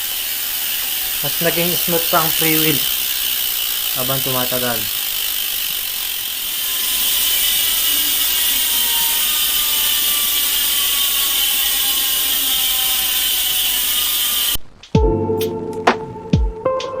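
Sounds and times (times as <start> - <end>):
bicycle hub freewheel buzzing: 0.0 - 14.6.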